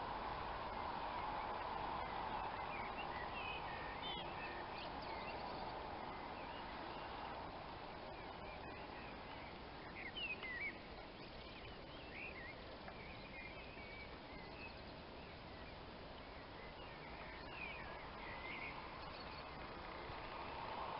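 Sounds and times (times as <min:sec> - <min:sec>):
faint outdoor hiss: 0:00.0 - 0:20.9
songbirds singing: 0:00.0 - 0:20.9.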